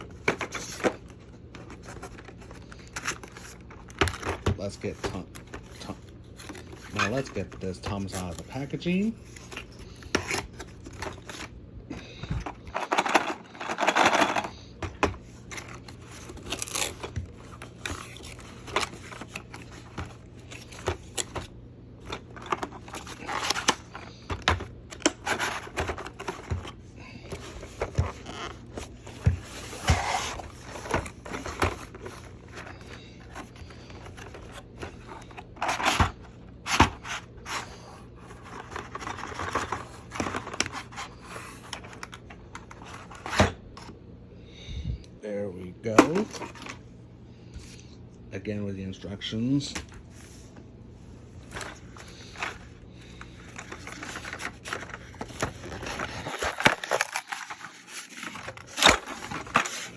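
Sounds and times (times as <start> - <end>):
plastic and cardboard rustling: 0.0 - 44.0, 45.8 - 46.9, 49.5 - 59.9.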